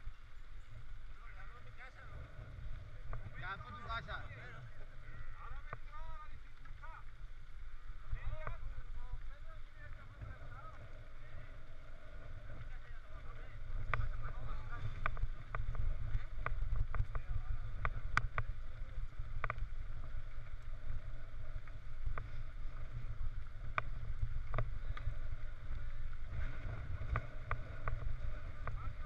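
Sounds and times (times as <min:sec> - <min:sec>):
gravel and bike rattles: 0:00.0 - 0:29.0
wind and ride vibration rumble: 0:00.0 - 0:29.0.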